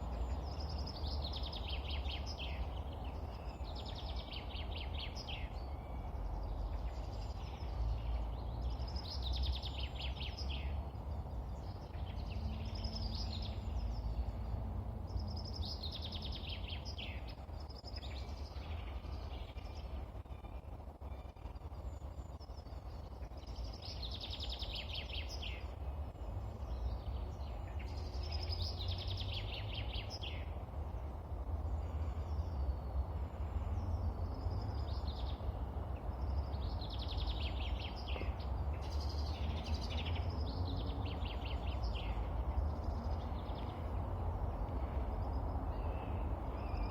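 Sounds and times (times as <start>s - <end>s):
steady low rumble: 0.0s - 46.9s.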